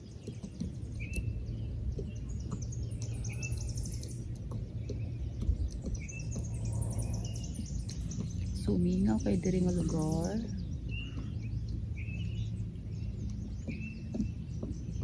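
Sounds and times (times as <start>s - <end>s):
small birds chirping: 0.0s - 15.0s
steady low rumble: 0.0s - 15.0s
faint high twittering: 0.4s - 15.0s.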